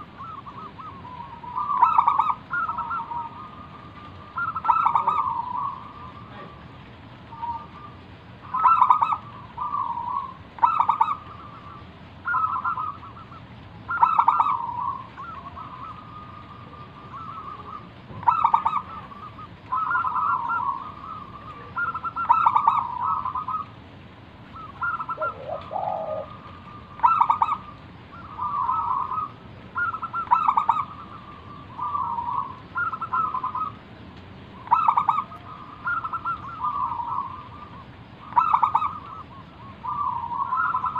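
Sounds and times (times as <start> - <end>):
dove cooing: 0.0 - 23.8, 24.4 - 34.0, 34.6 - 40.9
low bird call: 0.0 - 40.9.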